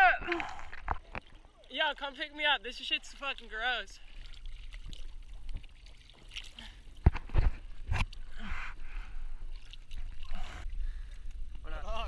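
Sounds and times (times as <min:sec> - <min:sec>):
seawater splashing and lapping: 0:00.0 - 0:12.0.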